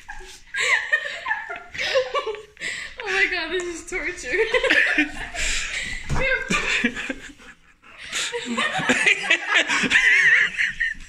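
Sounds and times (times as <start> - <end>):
people laughing: 0.0 - 3.3, 4.2 - 11.0.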